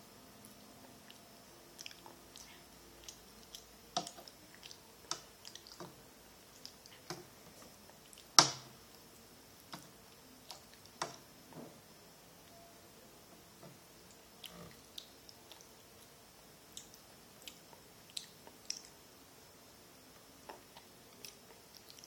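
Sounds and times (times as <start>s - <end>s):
child chewing: 0.4s - 11.2s, 14.0s - 19.1s, 20.1s - 22.0s.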